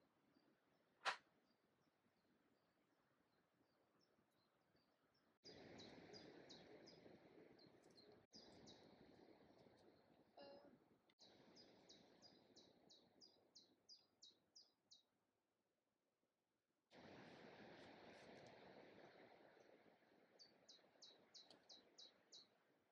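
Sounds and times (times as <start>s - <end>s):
songbird chirping: 0.0s - 15.3s, 17.0s - 22.9s.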